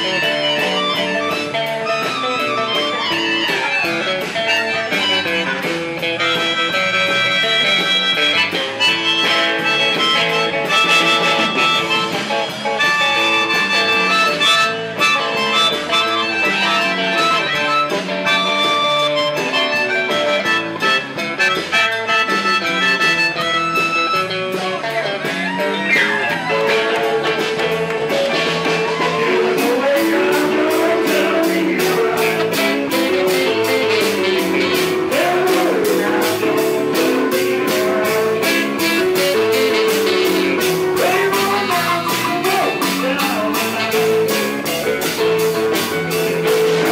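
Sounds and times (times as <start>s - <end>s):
melodica solo: 0.0s - 24.8s, 28.2s - 46.9s
electric guitar bends: 0.0s - 46.9s
live blues band: 0.0s - 46.9s.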